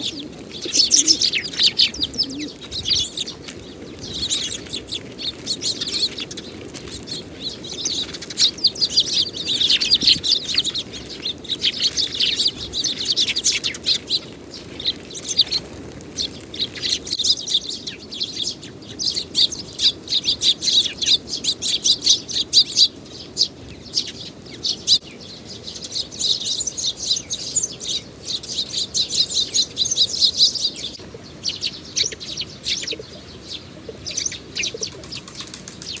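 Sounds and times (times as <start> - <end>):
sparrows chirping: 0.0 - 36.0.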